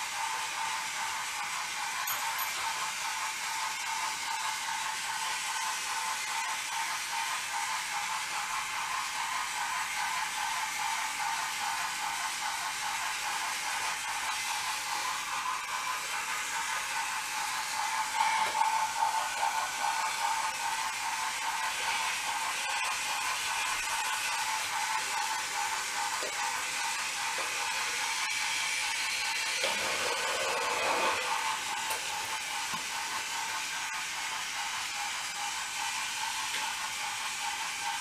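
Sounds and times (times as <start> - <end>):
toy train motors whirring: 0.0 - 38.0.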